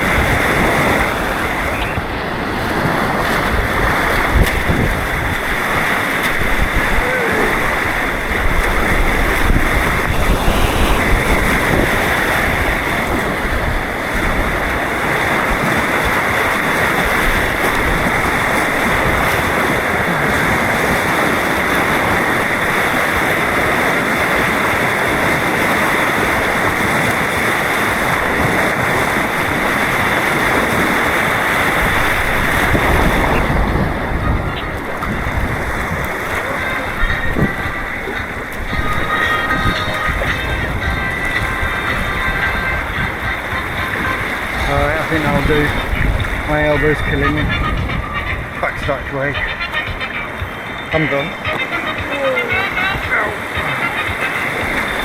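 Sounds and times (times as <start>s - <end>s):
white-water rapids rushing: 0.0s - 55.0s
wind noise on microphone: 0.0s - 55.0s.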